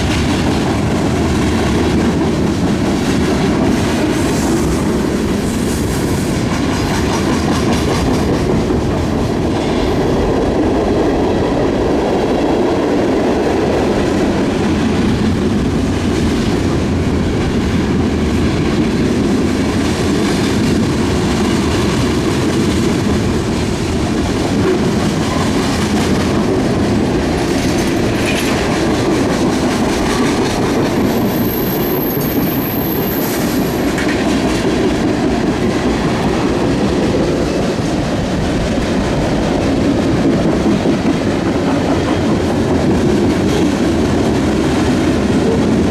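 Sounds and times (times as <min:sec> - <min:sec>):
freight train cars rolling: 0:00.0 - 0:45.9.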